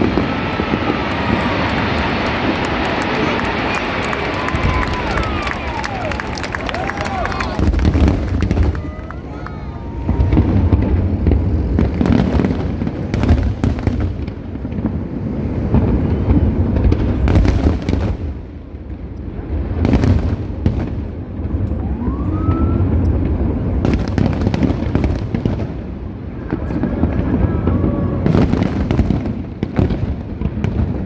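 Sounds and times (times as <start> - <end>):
fireworks bangs with crackle: 0.0 - 31.0.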